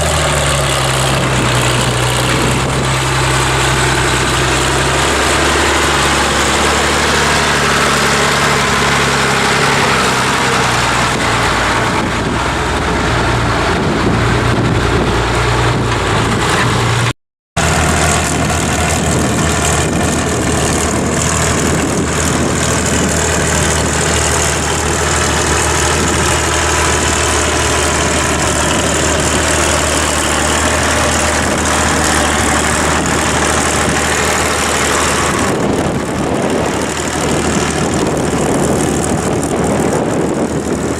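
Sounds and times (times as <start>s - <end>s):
wind on microphone: 0.0s - 17.1s, 17.7s - 40.9s
tractor diesel engine under load: 0.0s - 40.9s.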